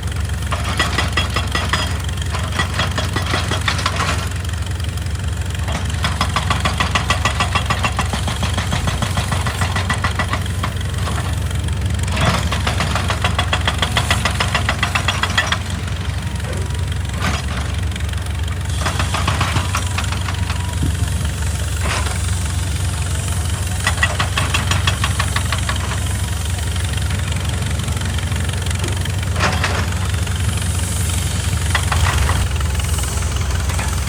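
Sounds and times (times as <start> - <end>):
diesel engine running: 0.0 - 34.0
rapid rattling clatter: 0.1 - 34.0.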